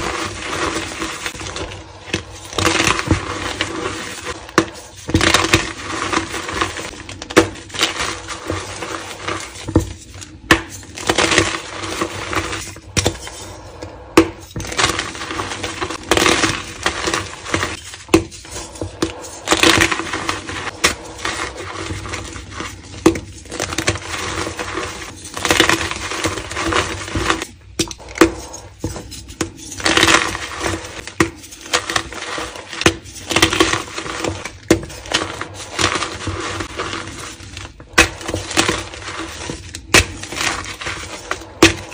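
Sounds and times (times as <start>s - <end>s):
gritty crumbling of powder: 0.0s - 41.9s.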